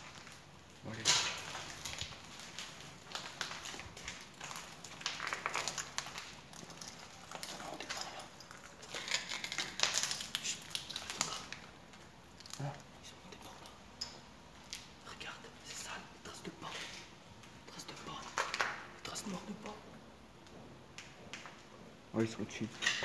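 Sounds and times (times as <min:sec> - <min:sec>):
clicks and crackles underfoot: 0:00.0 - 0:21.8.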